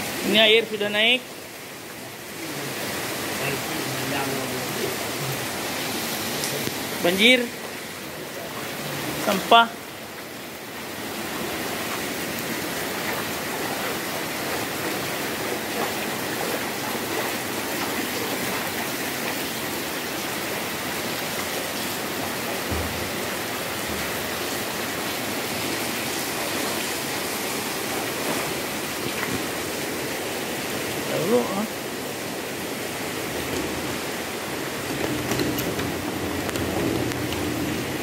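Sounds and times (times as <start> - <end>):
floodwater rushing across floor: 0.0 - 38.0.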